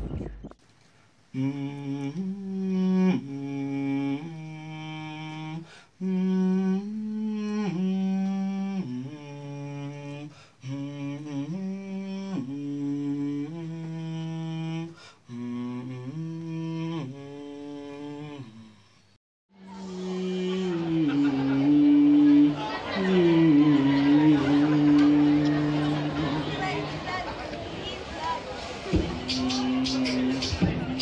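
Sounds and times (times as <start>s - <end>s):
men humming in harmony: 1.3s - 18.8s, 19.6s - 26.9s, 29.1s - 31.0s.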